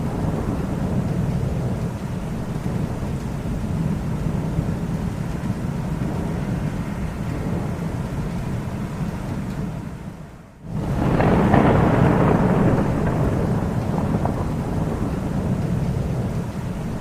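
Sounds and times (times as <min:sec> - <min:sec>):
rolling thunder: 0:00.0 - 0:17.0.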